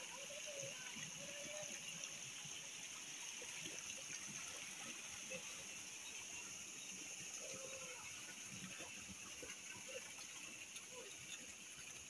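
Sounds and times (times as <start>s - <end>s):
faint water trickling: 0.0s - 12.0s
rainwater runoff hissing: 0.0s - 12.0s.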